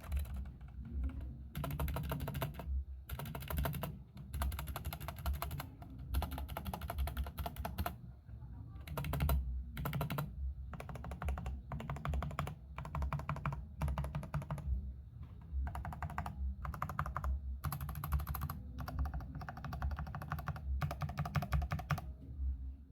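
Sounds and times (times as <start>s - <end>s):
mechanical keyboard typing: 0.0s - 8.0s, 8.8s - 14.8s, 15.4s - 22.1s.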